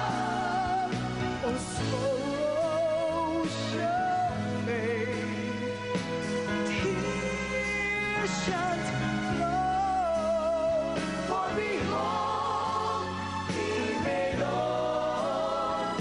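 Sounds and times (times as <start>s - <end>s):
gospel singing voices: 0.0s - 5.4s, 6.6s - 16.0s.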